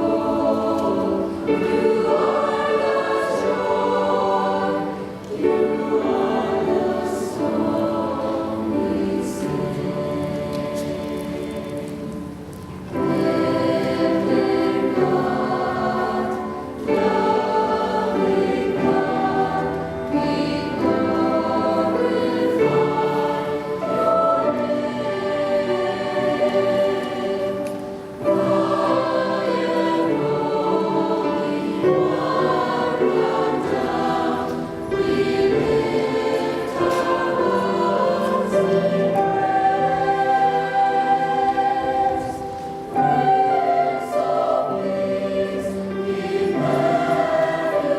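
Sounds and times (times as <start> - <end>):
choir singing a hymn: 0.0 - 47.9.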